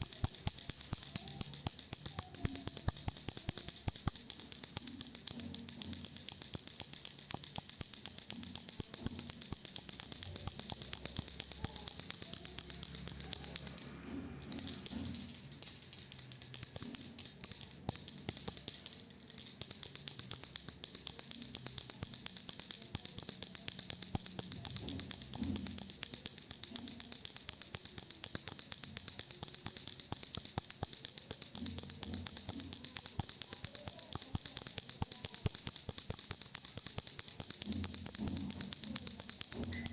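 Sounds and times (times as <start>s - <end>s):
hand bell ringing fast: 0.0s - 39.9s.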